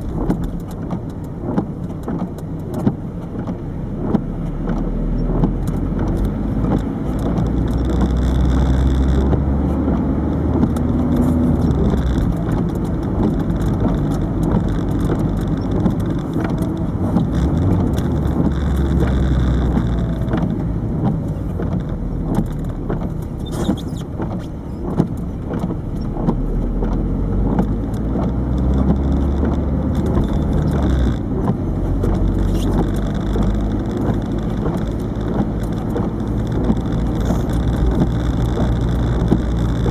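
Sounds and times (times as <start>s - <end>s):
camera rattling on dashboard: 0.0s - 39.9s
car engine drone: 0.0s - 39.9s
road noise: 0.0s - 39.9s.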